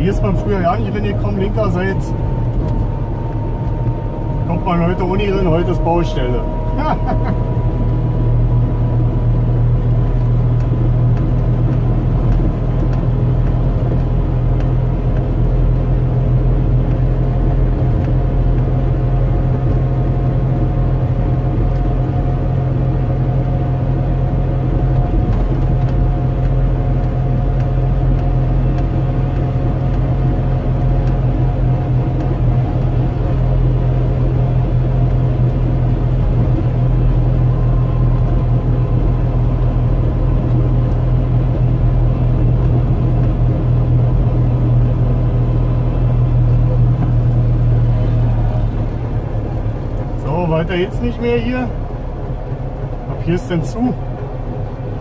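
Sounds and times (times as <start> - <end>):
road noise: 0.0 - 55.0
two-stroke car engine running: 0.0 - 55.0.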